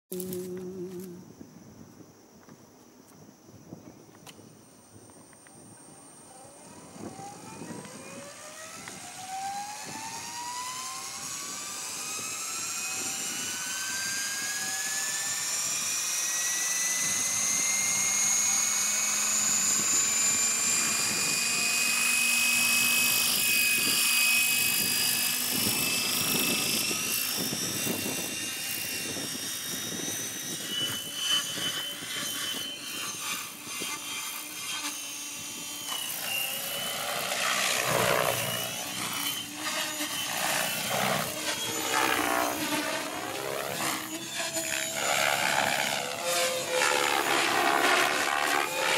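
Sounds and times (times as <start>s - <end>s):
model helicopter whine: 0.1s - 1.4s, 5.2s - 48.9s.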